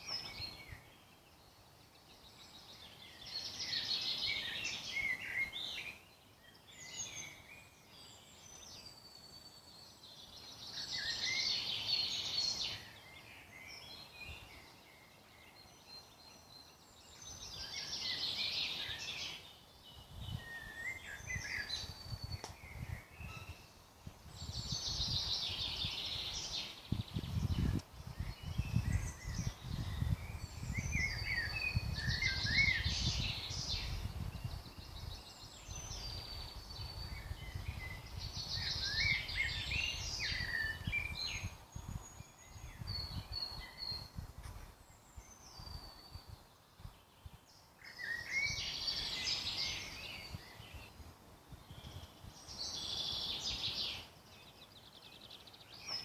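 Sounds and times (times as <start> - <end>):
songbirds whistling: 0.0 - 1.2, 1.9 - 23.8, 24.4 - 44.2, 44.9 - 56.0.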